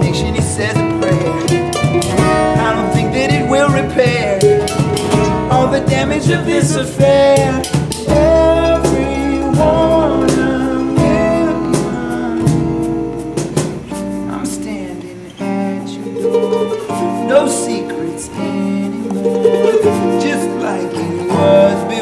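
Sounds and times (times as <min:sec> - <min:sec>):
acoustic guitar: 0:00.0 - 0:22.0
mandolin: 0:00.0 - 0:22.0
upright bass: 0:00.0 - 0:22.0.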